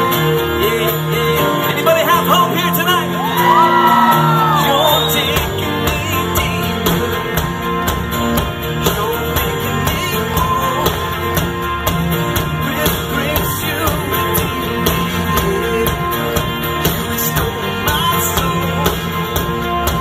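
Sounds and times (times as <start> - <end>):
electric guitar: 0.0 - 20.0
live rock band playing: 0.0 - 20.0
steady drum beat: 3.4 - 20.0.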